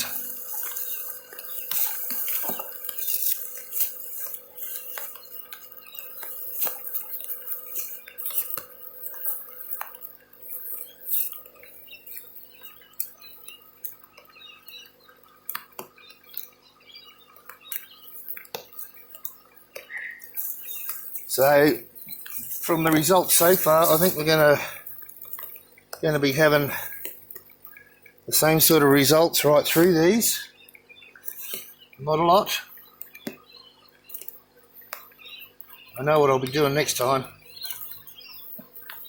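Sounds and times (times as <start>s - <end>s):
raindrops pattering on plastic: 0.0s - 39.0s.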